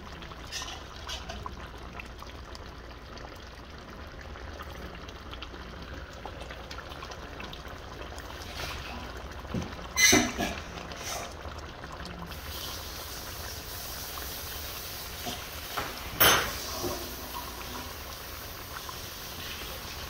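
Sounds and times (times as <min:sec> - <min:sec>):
gravy simmering and bubbling: 0:00.0 - 0:20.0.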